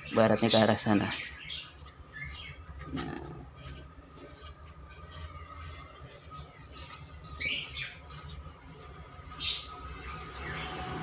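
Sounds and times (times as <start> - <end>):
small birds chirping: 0.0 - 4.0, 5.0 - 11.0.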